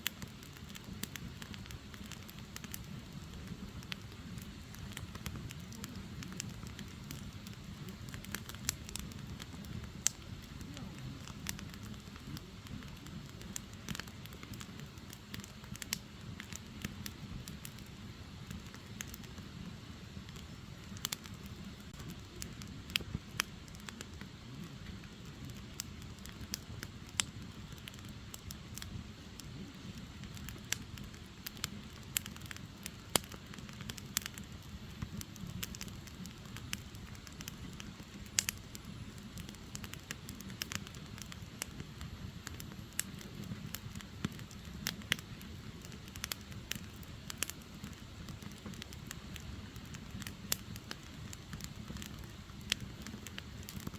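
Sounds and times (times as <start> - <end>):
firewood crackling and popping: 0.0 - 53.9
flames rushing: 0.0 - 53.9.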